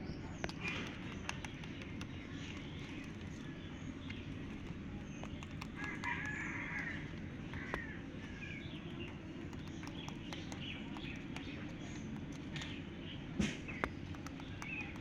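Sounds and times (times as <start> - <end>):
birds chirping: 0.0 - 15.0
low outdoor rumble: 0.0 - 15.0
small clicks: 0.4 - 7.9, 8.6 - 12.8, 13.7 - 15.0.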